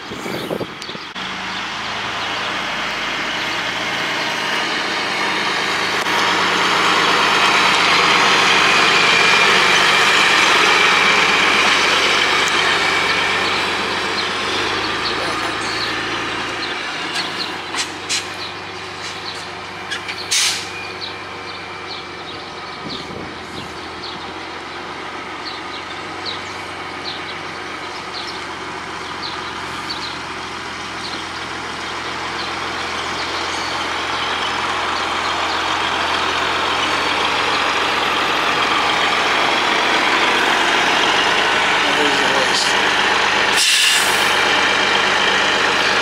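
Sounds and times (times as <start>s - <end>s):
diesel truck engine running: 0.0s - 46.0s.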